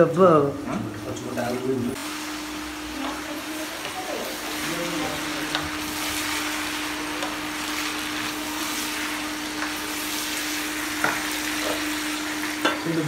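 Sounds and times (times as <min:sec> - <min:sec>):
food sizzling in hot oil: 0:00.4 - 0:13.0.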